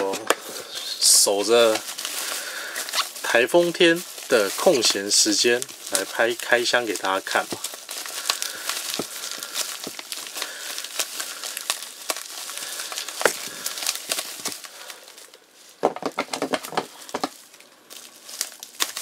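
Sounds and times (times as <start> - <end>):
bubble wrap and plastic crinkling: 0.0 - 19.0.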